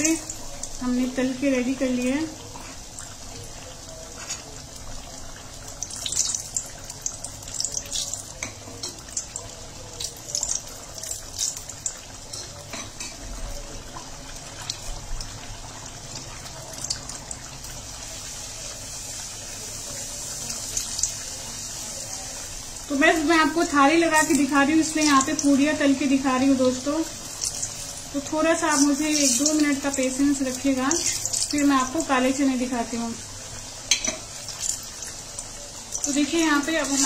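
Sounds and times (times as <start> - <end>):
deep-frying sizzle and crackles: 0.0 - 37.0.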